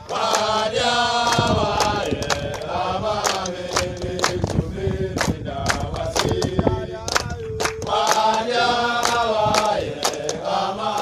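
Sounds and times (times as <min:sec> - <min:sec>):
men singing a chant: 0:00.0 - 0:11.0
rhythmic hand clapping: 0:00.0 - 0:11.0.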